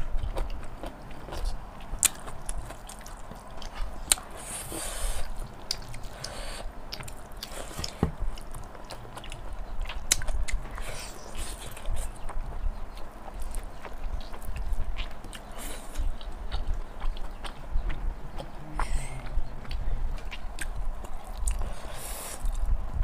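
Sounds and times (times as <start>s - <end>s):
chewing and biting food: 0.0s - 23.0s.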